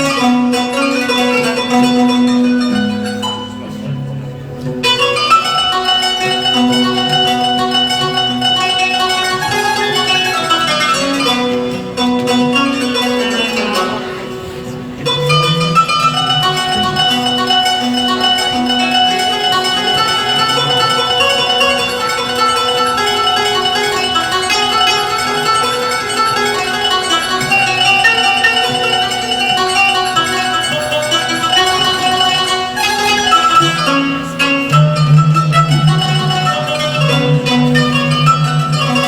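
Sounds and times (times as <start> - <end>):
plucked string instrumental music: 0.0 - 39.0.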